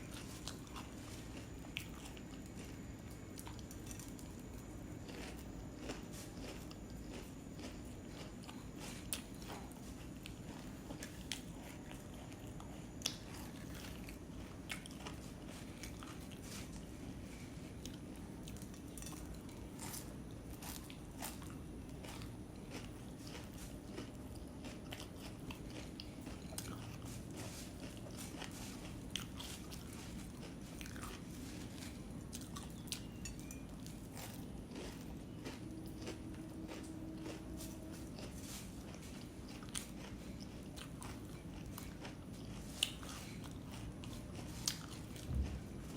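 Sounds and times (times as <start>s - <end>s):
crunchy chewing: 0.0s - 45.9s.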